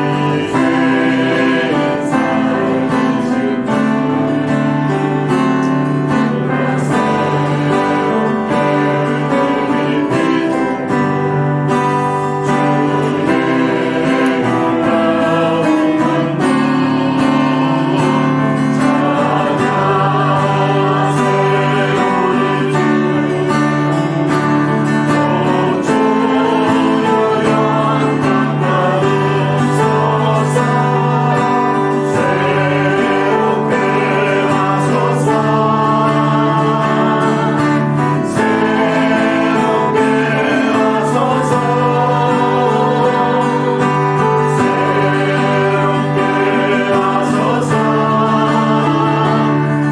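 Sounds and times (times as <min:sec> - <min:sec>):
group singing a worship song: 0:00.0 - 0:49.9
guitar accompaniment: 0:00.0 - 0:49.9.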